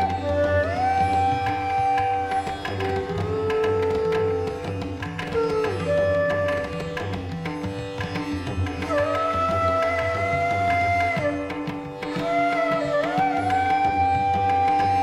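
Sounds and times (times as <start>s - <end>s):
string melody with sliding notes: 0.0s - 15.0s.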